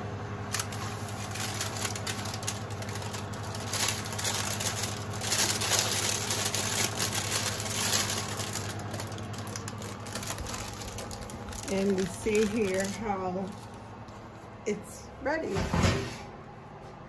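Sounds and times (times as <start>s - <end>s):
parchment paper crinkling: 0.5s - 14.6s.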